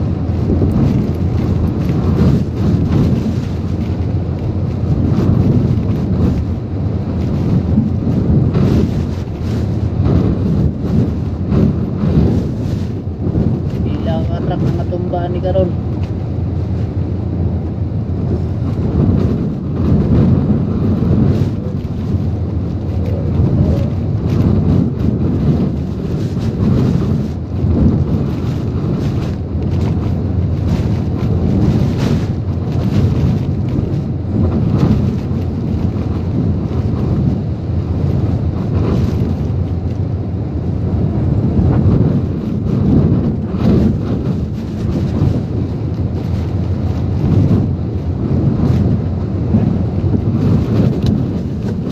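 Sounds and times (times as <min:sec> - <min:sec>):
driving rain: 0:00.0 - 0:51.9
strong gusty wind: 0:00.0 - 0:51.9.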